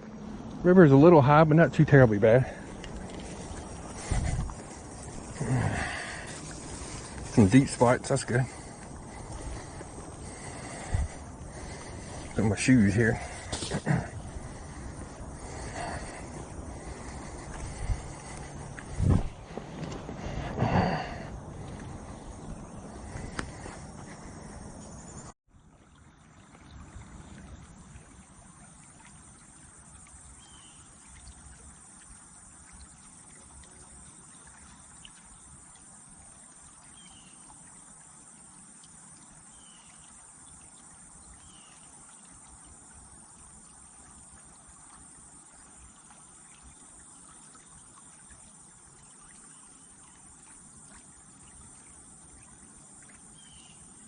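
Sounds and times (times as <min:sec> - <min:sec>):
flowing water hiss: 0:00.0 - 0:54.0
insects: 0:00.0 - 0:54.0.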